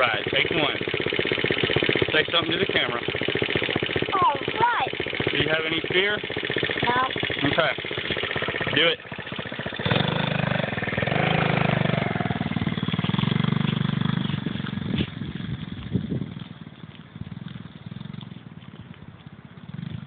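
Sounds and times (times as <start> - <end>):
dirt bike engine revving: 0.0 - 18.7.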